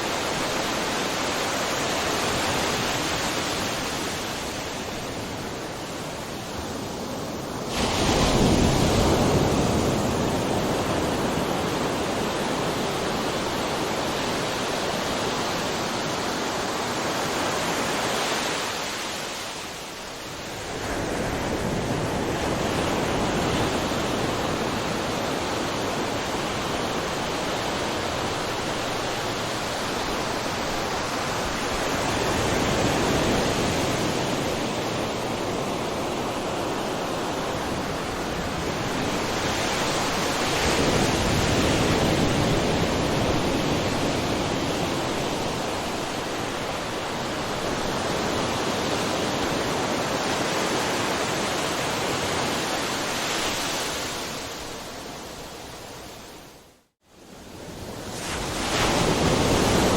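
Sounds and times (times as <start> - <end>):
ocean surf crashing: 0.0 - 56.3, 57.3 - 59.9.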